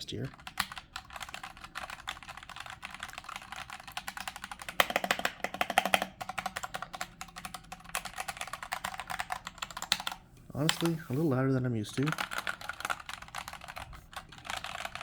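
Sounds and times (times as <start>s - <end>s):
fast typing on mechanical keyboard: 0.2s - 11.0s, 11.8s - 15.0s.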